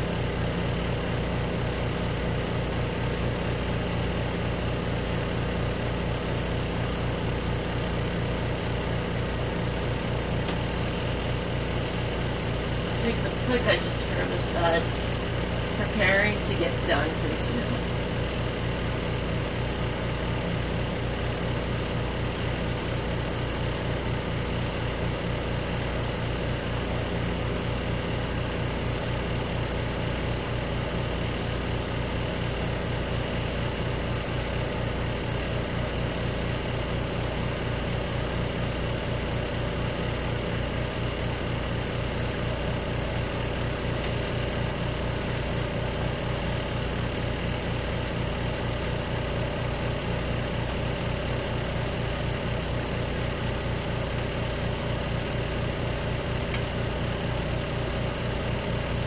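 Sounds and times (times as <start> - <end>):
room fan: 0.0 - 59.0
washing machine pulsing hum: 0.0 - 59.0.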